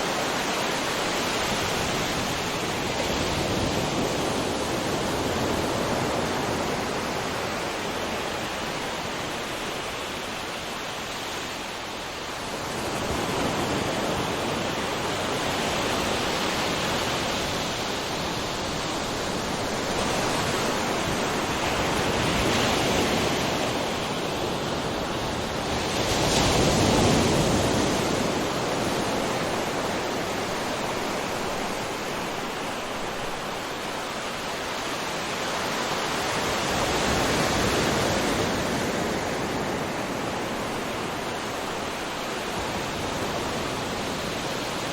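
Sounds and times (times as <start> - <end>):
ocean waves breaking on shore: 0.0 - 44.9.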